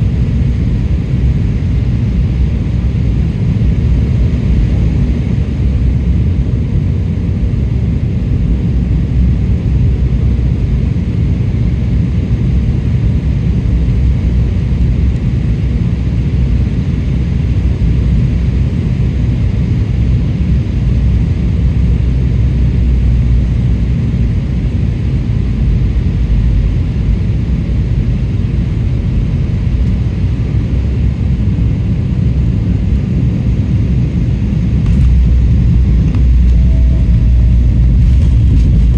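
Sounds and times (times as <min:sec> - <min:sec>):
jet engine and airflow rumble: 0:00.0 - 0:38.9.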